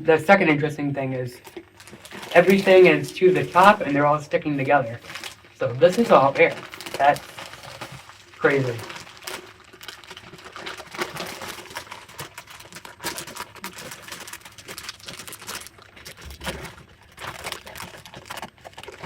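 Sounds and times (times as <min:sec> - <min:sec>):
snack bag crinkling and rustling: 0:01.4 - 0:19.0.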